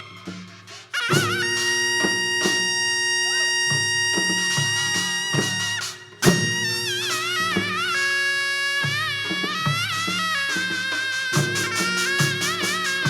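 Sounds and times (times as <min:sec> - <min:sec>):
drum strokes: 0:00.0 - 0:13.0
wind instrument with vibrato: 0:00.0 - 0:13.0.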